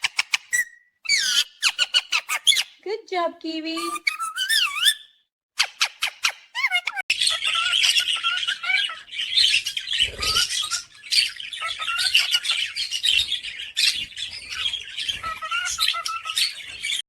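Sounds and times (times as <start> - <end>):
parrots chirping and twittering: 0.0 - 2.8, 3.8 - 17.0.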